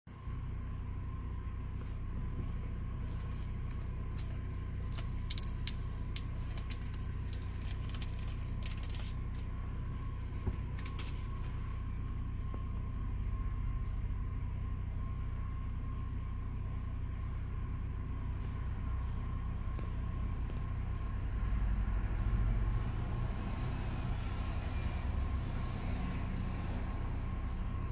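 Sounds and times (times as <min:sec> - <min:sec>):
car engine idling: 0:00.1 - 0:27.9.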